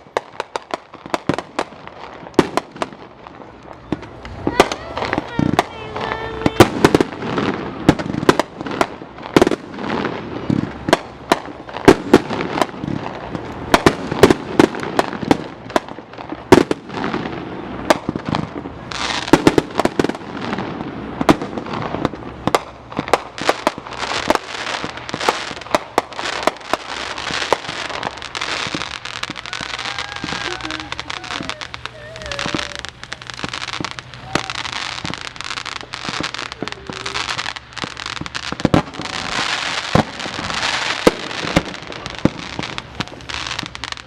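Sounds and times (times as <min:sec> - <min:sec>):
fireworks bangs and pops: 0:00.0 - 0:44.0
fireworks crackle: 0:00.0 - 0:44.0.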